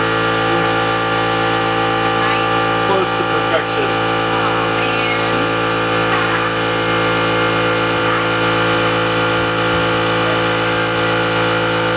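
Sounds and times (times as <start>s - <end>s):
machine motor humming: 0.0s - 11.9s.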